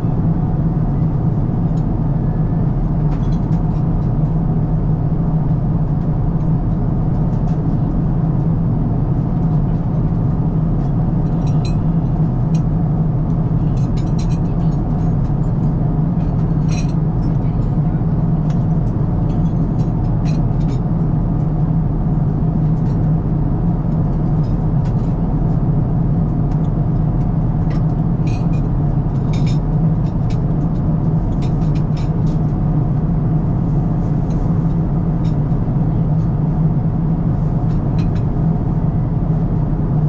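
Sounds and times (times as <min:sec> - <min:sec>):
airliner cabin noise: 0:00.0 - 0:40.0.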